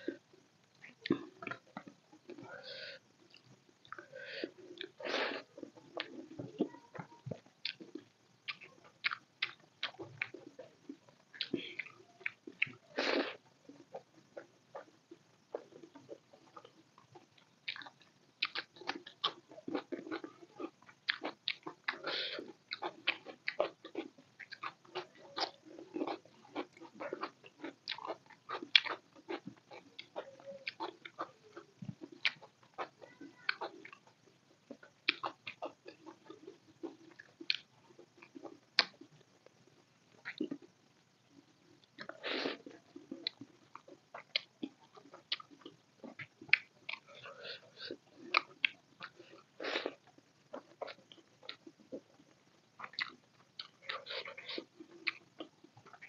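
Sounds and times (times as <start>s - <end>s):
chewing and lip-smacking: 5.6s - 12.8s, 13.9s - 39.3s, 41.9s - 52.2s, 52.8s - 56.0s.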